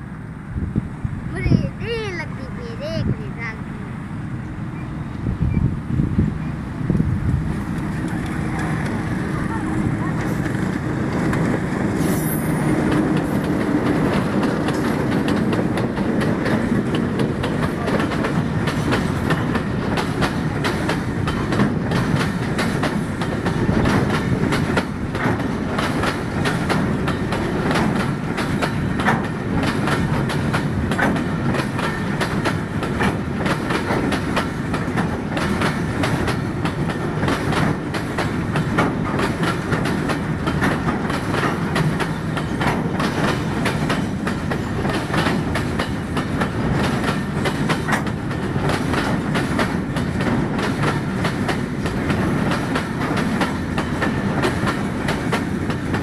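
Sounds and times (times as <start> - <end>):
freight train rumbling past: 0.0 - 56.0
wheels clacking over rail joints: 6.9 - 56.0.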